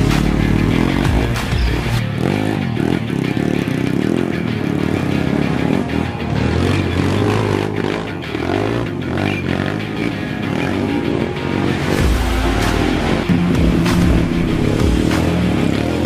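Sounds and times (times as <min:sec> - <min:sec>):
background music: 0:00.0 - 0:16.0
dirt bike engines revving: 0:00.0 - 0:16.0.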